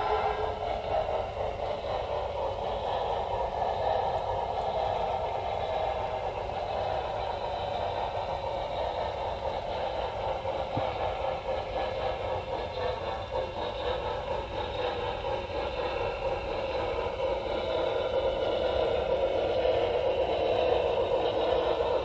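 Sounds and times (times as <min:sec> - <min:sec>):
model train wheels on rails: 0:00.0 - 0:22.0.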